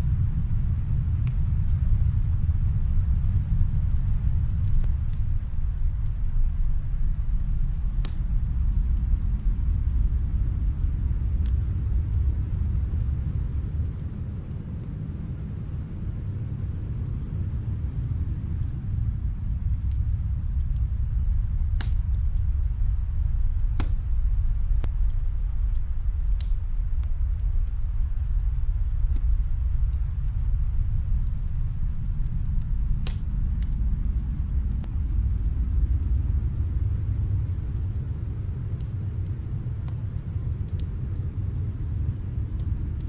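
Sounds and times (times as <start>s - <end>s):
low steady rumble: 0.0s - 43.0s
wood fire crackling: 0.0s - 43.0s.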